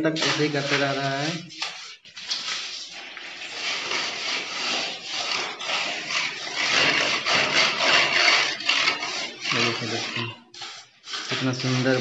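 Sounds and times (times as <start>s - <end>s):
wooden float scraping plaster: 0.0s - 12.0s.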